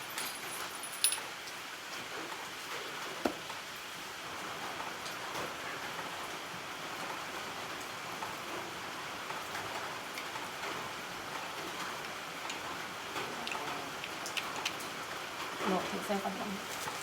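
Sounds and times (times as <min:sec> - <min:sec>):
steady hiss like rain: 0:00.0 - 0:17.0.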